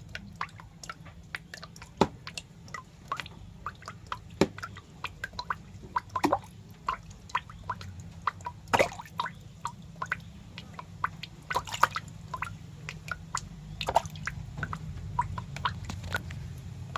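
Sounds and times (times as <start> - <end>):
wet clicks and squishes: 0.0 - 16.9.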